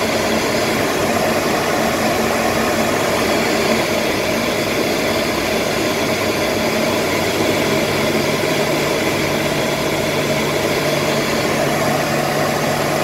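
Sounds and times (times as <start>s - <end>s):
aircraft engines: 0.0s - 13.0s
rushing air: 0.0s - 13.0s.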